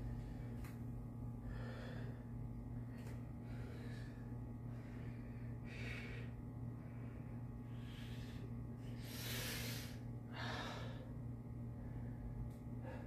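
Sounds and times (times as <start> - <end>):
low steady hum: 0.0 - 13.0
man breathing hard: 0.0 - 13.0.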